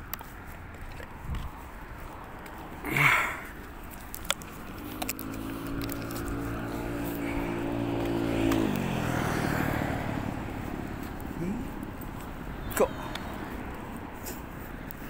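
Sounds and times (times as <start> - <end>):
motor vehicle passing by: 0.0 - 15.0.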